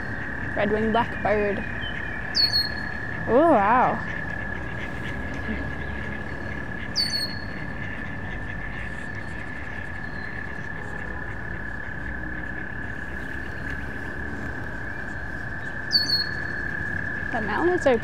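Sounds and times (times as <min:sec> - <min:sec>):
frogs trilling: 0:00.0 - 0:18.0.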